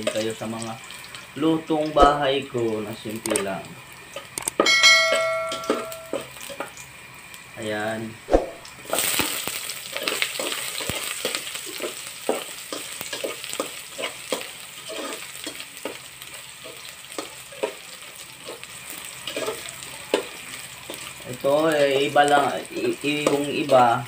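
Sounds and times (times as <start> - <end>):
ginger sizzling in hot oil: 0.0 - 24.0.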